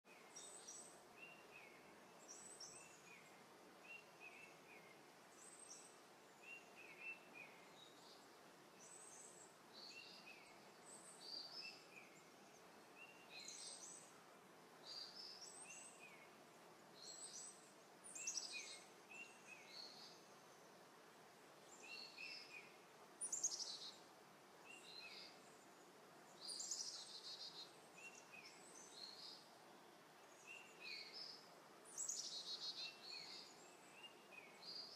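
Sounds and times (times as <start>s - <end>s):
faint birdsong chirps: 0.0s - 34.9s
steady hiss: 0.1s - 34.9s.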